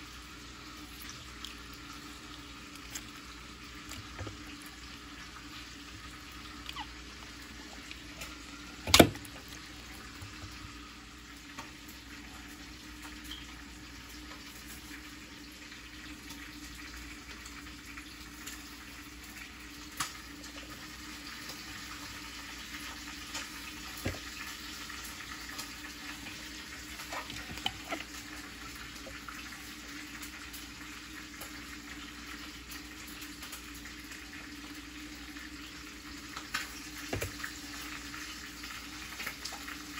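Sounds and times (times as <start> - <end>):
running kitchen tap hiss: 0.0 - 39.9.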